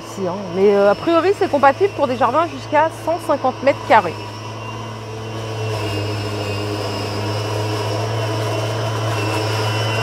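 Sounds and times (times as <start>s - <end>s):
electric lawn mower humming: 0.0s - 10.0s.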